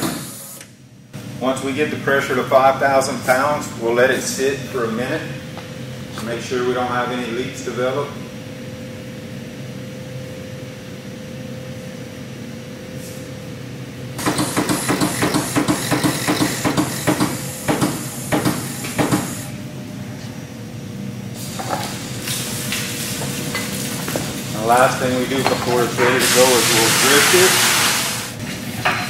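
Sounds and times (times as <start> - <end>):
steady shop hum: 0.0 - 29.0.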